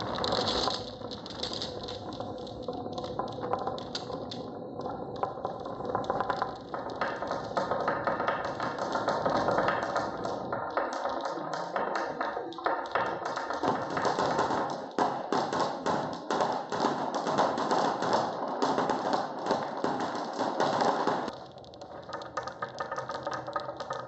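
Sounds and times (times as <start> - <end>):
marbles rolling down wooden track: 0.0 - 24.0.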